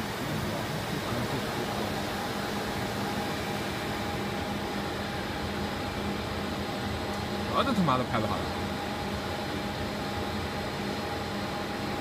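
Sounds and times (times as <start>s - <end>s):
injection molding machine hum: 0.0s - 12.0s.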